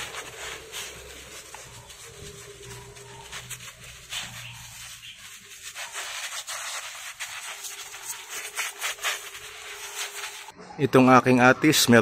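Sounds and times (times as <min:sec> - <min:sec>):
droplets pattering on leaves: 0:00.0 - 0:10.5
sprayer hissing: 0:00.0 - 0:10.5.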